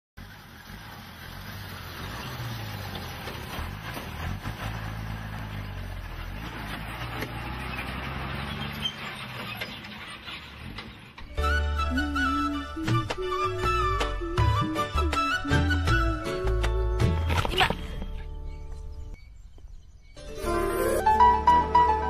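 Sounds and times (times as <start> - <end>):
vehicle engine humming: 0.2 - 22.0.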